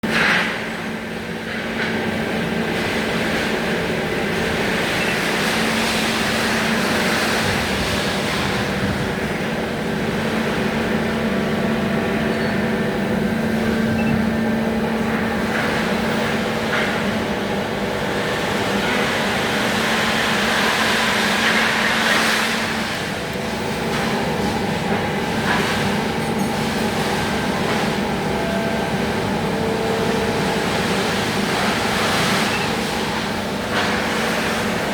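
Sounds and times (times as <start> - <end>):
machine running with low hum: 0.0 - 34.9
mechanical rumble with hiss: 0.0 - 34.9.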